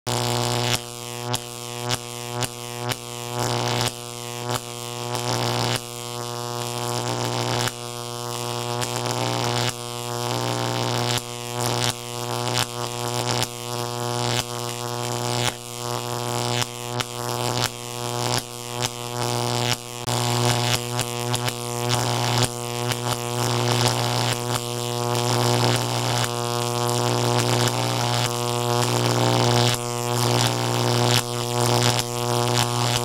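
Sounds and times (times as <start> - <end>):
electrical buzz over low hum: 0.1 - 33.0.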